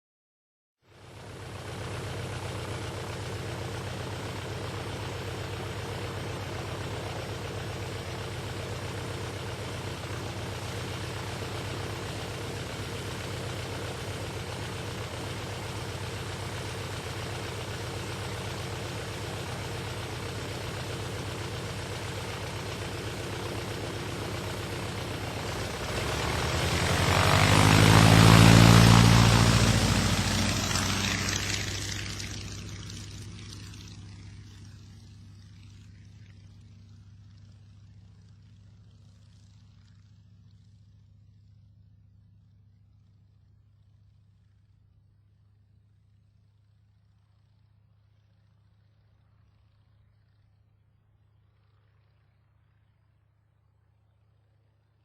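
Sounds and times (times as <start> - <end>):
propeller airplane engine: 0.9 - 55.0.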